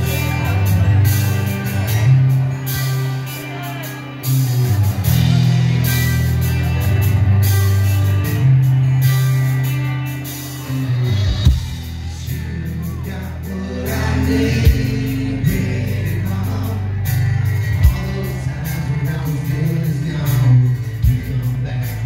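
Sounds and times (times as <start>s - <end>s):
acoustic guitar: 0.0s - 22.0s
deep bass notes: 0.0s - 22.0s
drum kit with cymbal hits: 0.0s - 22.0s
live rock band playing: 0.0s - 22.0s.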